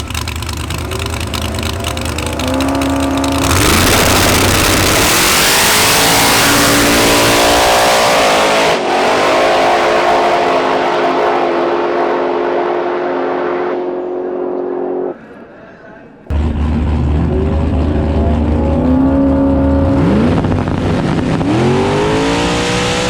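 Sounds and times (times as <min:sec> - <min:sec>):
drag race car accelerating: 0:00.0 - 0:15.2, 0:16.3 - 0:23.0.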